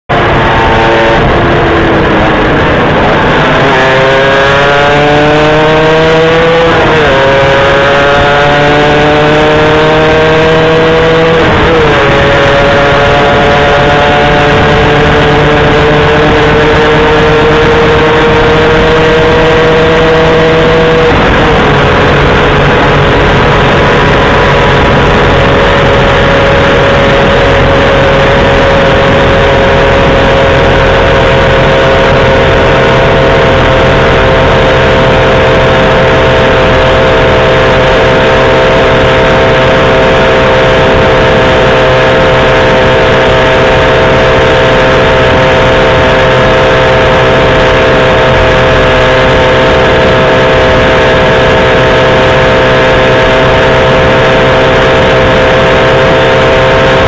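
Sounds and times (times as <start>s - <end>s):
road and wind noise: 0.0s - 57.0s
vehicle engine accelerating: 0.1s - 57.0s.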